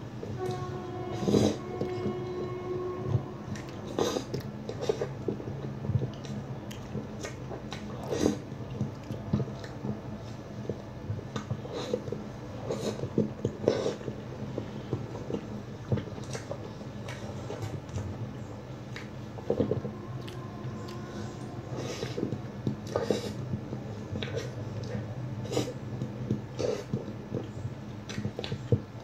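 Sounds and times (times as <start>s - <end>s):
low steady hum: 0.0s - 29.0s
person chewing food: 3.5s - 28.9s.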